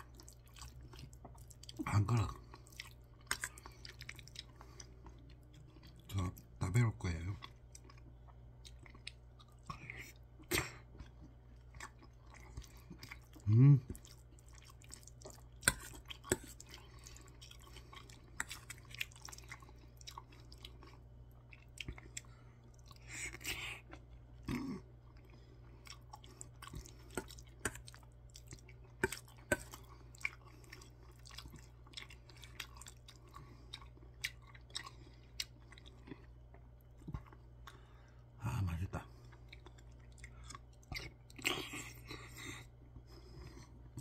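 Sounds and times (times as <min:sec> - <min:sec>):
wet chewing: 0:00.0 - 0:06.5, 0:07.3 - 0:38.0.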